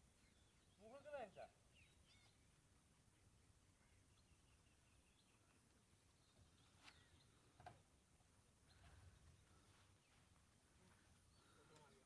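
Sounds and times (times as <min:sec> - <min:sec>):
faint riverside ambience: 0:00.0 - 0:12.0.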